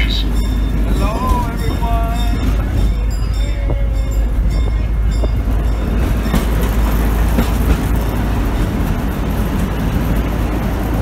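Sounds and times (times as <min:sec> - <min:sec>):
ride train rumbling and rattling: 0:00.0 - 0:11.0.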